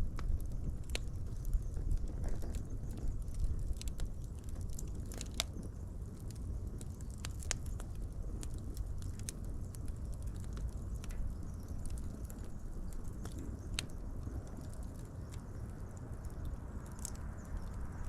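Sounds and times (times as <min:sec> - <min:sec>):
fire crackling: 0:00.0 - 0:18.0
wood popping and snapping: 0:00.2 - 0:17.6.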